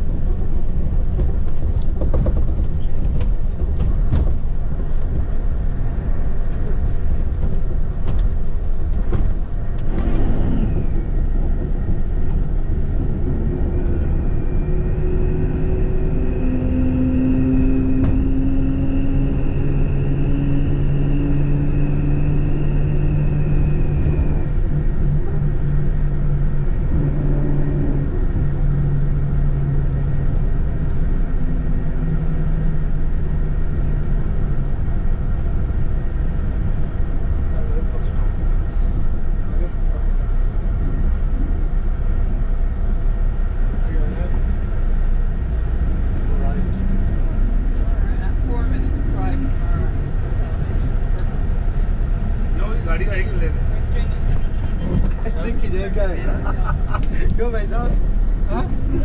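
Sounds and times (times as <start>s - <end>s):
bus engine running: 0.0s - 59.0s
road rumble: 0.0s - 59.0s.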